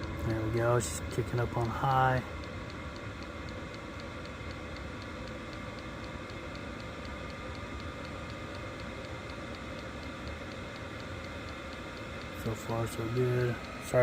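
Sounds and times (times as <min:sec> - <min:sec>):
fuel pump ticking: 0:00.0 - 0:14.0
heater blower and burner rushing: 0:00.0 - 0:14.0.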